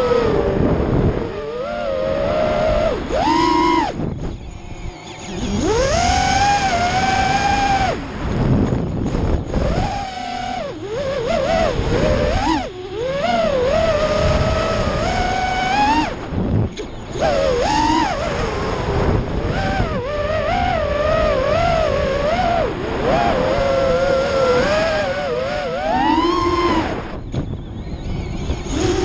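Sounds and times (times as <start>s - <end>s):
quadcopter motors whining: 0.0s - 29.0s
wind over microphone: 0.0s - 29.0s.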